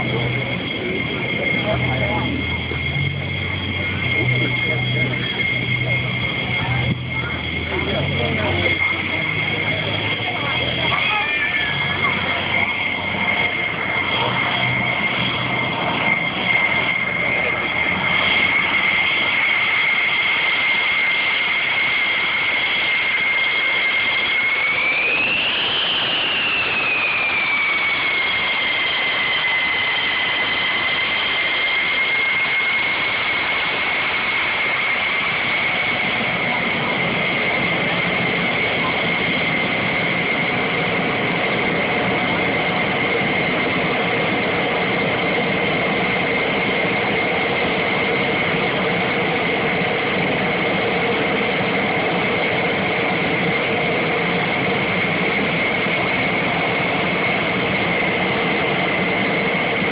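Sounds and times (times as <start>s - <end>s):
low hum: 0.0s - 52.2s
jet engine whine: 0.0s - 59.9s.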